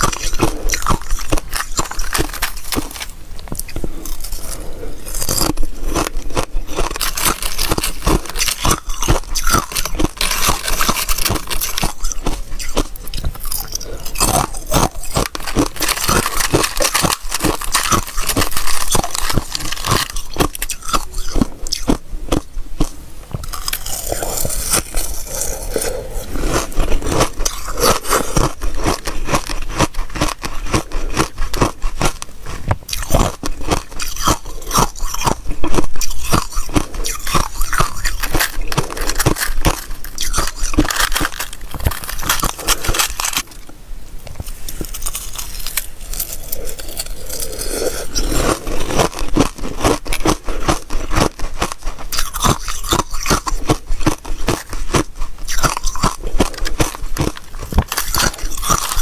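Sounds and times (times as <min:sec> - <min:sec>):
ice crunching and crackling: 0:00.0 - 0:43.6, 0:44.4 - 0:59.0.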